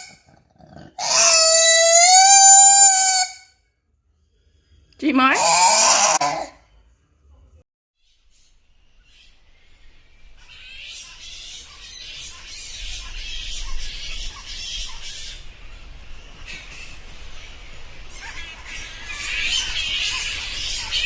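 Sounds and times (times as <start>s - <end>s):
animals squawking and screeching: 0.0s - 3.5s, 5.1s - 6.7s, 8.3s - 21.0s.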